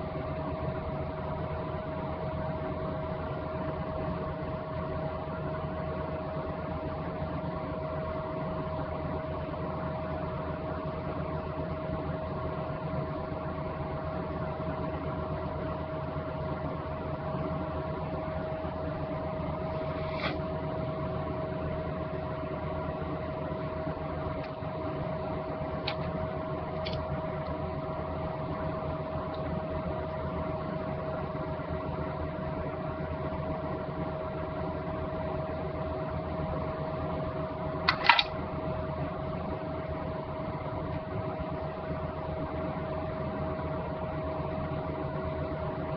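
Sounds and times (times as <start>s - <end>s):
steady mechanical hum: 0.0s - 45.9s.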